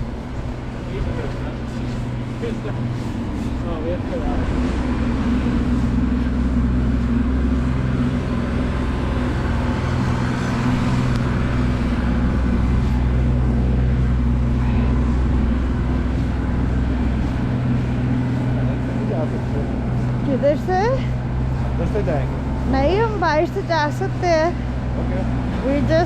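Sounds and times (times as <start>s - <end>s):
city street noise: 0.0s - 26.0s
vehicle engine idling: 0.0s - 26.0s.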